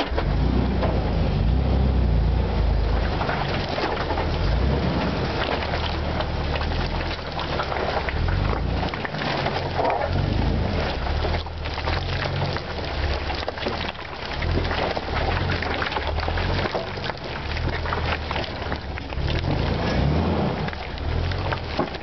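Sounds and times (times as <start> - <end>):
engine rumbling: 0.0 - 22.0
tyre churning through mud: 0.0 - 22.0.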